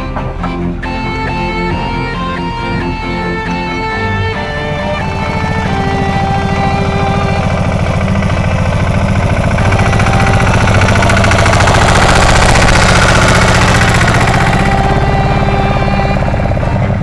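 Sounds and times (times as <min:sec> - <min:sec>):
tractor engine working under load: 0:00.0 - 0:17.0.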